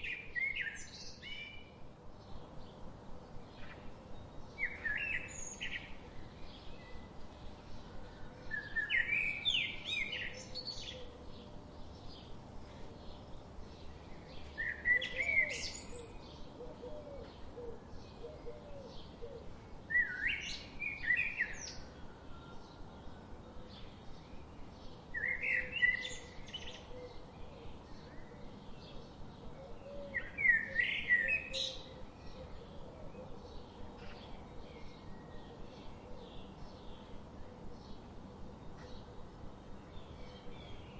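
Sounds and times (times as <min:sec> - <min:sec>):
faint bird chirping: 0:00.0 - 0:40.9.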